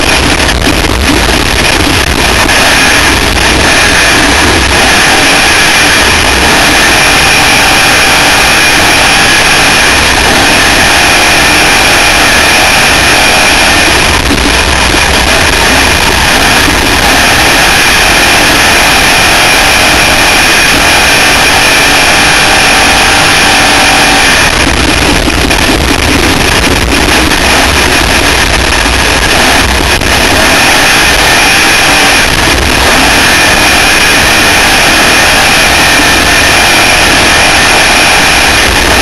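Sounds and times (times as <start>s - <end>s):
loud wind noise on microphone: 0.0s - 39.0s.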